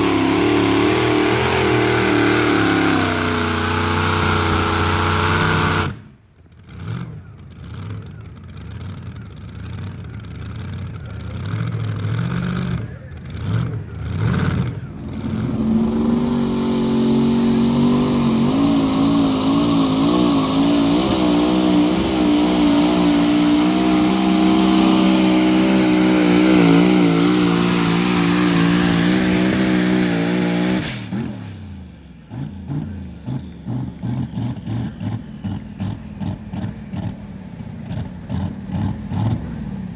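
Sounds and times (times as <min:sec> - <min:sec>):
engine revving under load: 0:00.0 - 0:39.9.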